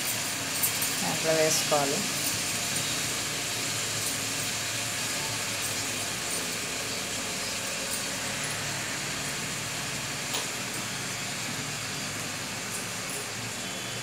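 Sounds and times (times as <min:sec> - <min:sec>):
vegetables frying in a pan: 0:00.0 - 0:14.0.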